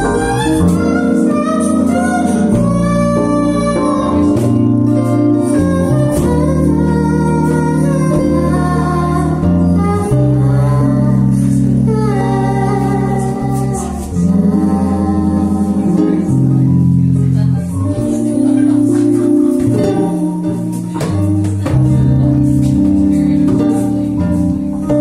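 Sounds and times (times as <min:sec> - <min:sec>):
electric bass low notes: 0:00.0 - 0:25.0
person singing melody: 0:00.0 - 0:25.0.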